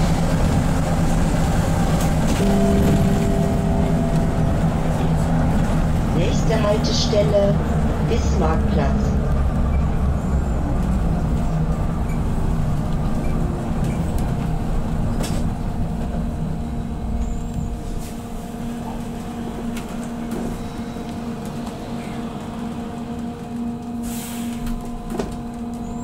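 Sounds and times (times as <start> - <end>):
low diesel engine drone: 0.0 - 26.0.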